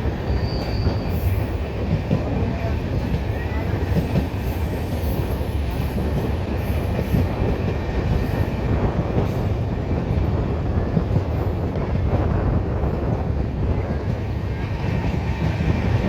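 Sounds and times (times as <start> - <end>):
passenger train rumbling: 0.0 - 16.0.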